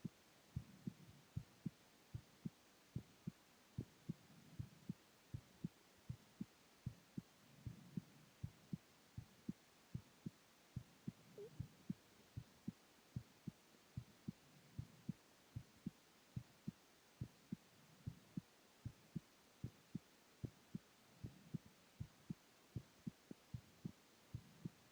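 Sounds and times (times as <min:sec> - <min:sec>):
heartbeat double thumps: 0:00.6 - 0:24.8.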